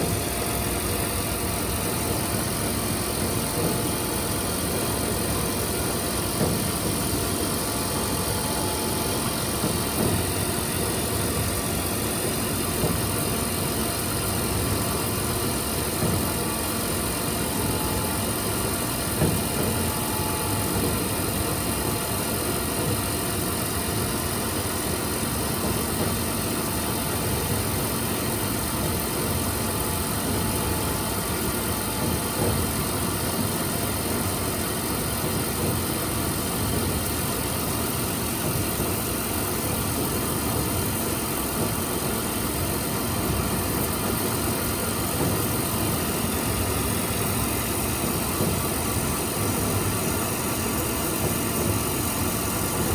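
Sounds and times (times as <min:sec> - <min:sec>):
milling machine whining drone: 0:00.0 - 0:52.9.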